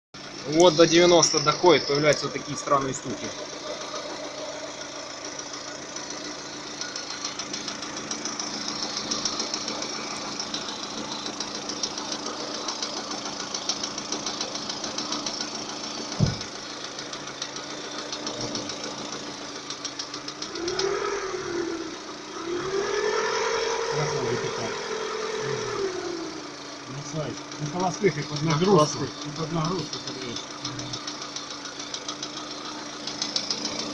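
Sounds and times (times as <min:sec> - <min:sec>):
rapid metallic engine knock: 0:00.2 - 0:20.8, 0:26.5 - 0:33.9
car engine running: 0:00.2 - 0:33.9.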